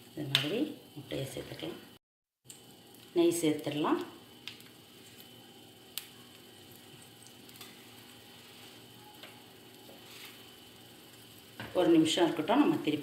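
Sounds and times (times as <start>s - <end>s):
egg sizzling on a griddle: 0.0s - 1.2s, 1.9s - 13.0s.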